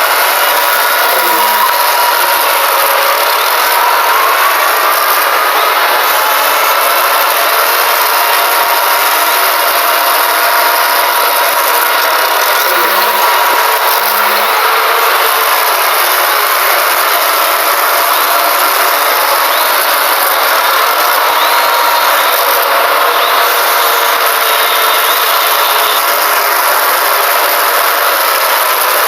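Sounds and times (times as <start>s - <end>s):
distorted alarm grinding noise: 0.0s - 29.0s.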